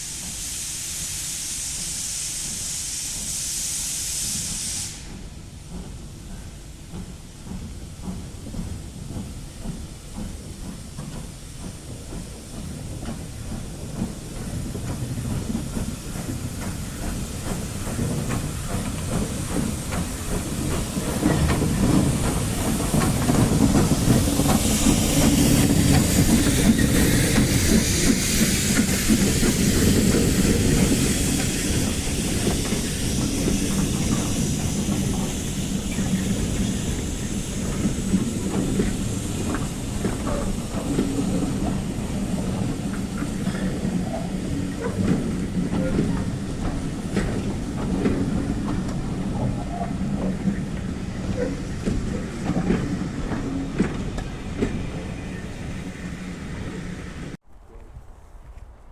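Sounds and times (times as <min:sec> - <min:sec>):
hissing steam: 0:00.0 - 0:57.4
steam train passing: 0:00.0 - 0:57.4
wheels clacking over rail joints: 0:05.8 - 0:57.4.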